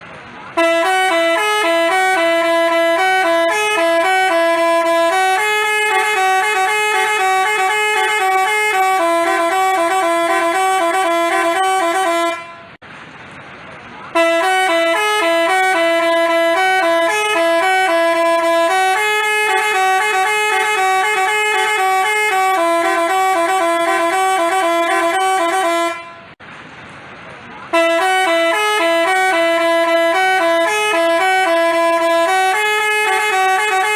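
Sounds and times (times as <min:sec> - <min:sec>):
multi-tone horn playing tune: 0:00.5 - 0:12.8, 0:14.1 - 0:26.4, 0:27.7 - 0:33.9.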